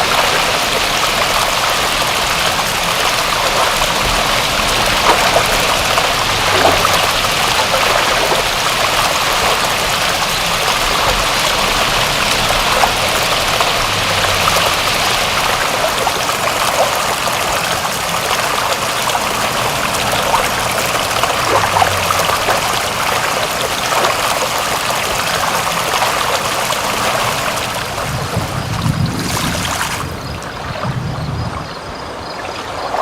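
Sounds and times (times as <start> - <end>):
water drips and trickles: 0.0 - 33.0
water rushing and splashing: 0.0 - 33.0.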